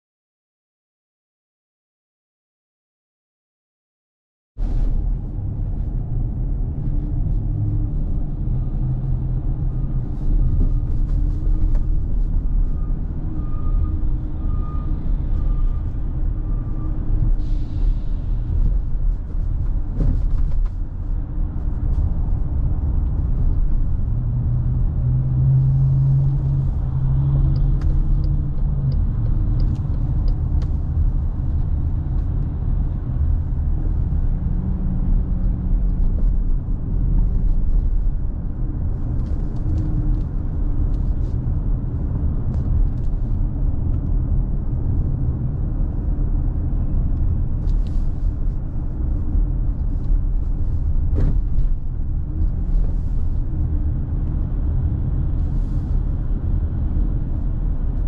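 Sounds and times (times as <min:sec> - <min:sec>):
car engine rumble: 0:04.6 - 0:58.0
tyres on road: 0:04.6 - 0:58.0.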